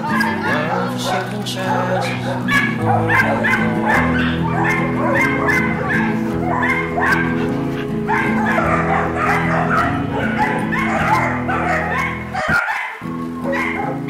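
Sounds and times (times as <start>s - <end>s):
acoustic folk music: 0.0s - 14.0s
dogs barking and yipping: 0.0s - 14.0s.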